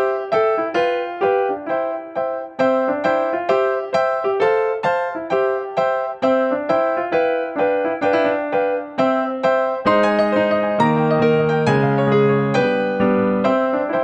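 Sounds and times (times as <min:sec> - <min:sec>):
keyboard music: 0:00.0 - 0:14.0.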